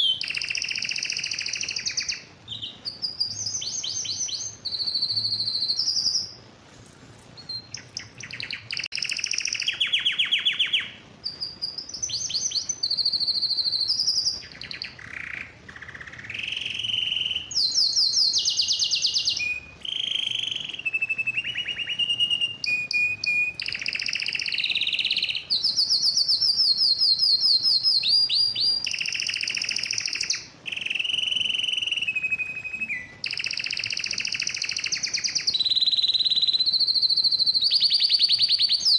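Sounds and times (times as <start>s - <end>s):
canary singing trills: 0.0s - 6.5s, 7.4s - 38.9s.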